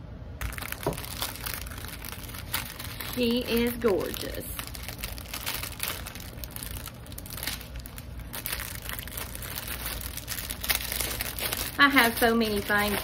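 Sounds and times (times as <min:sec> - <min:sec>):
low steady hum: 0:00.0 - 0:13.0
plastic film crinkling: 0:00.4 - 0:13.0.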